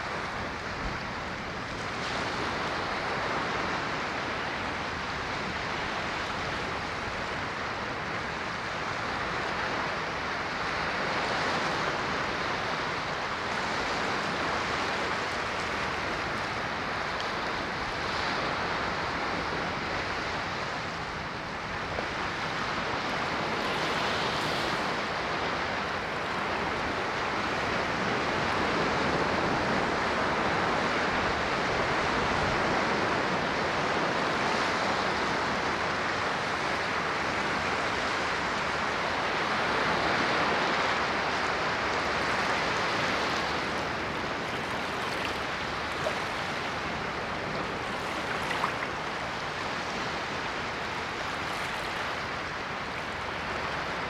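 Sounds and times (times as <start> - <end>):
ocean waves washing onto shore: 0.0 - 54.0.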